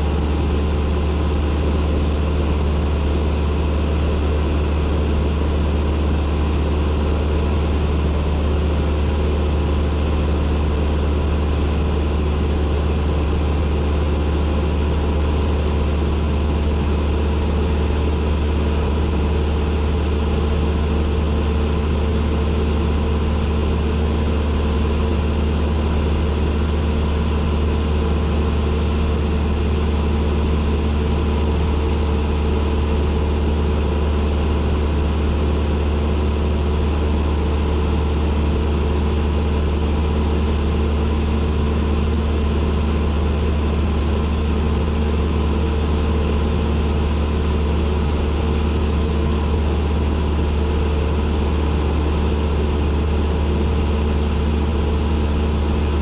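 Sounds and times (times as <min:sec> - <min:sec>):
airplane engine droning in cabin: 0:00.0 - 0:56.0.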